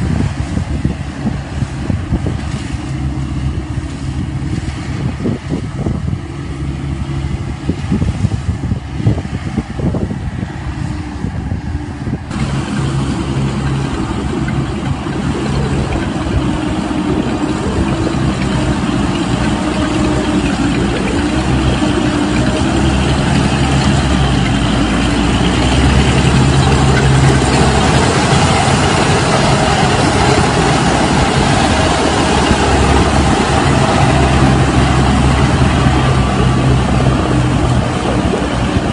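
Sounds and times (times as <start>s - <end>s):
combine harvester machinery running: 0.0s - 38.9s.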